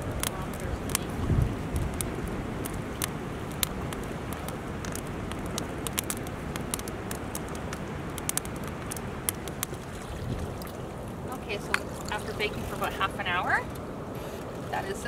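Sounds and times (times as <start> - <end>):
campfire crackling and popping: 0.0 - 15.0
fire low rumble: 0.0 - 15.0.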